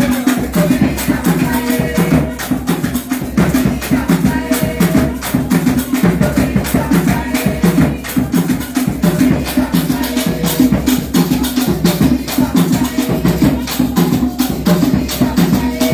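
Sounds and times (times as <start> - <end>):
bright rattling percussion: 0.0 - 15.9
hand drumming: 0.0 - 15.9.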